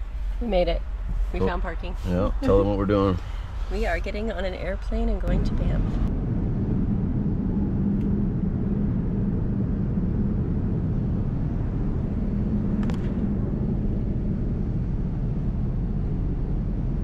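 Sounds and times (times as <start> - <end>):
jet airliner cabin drone: 0.0 - 17.0.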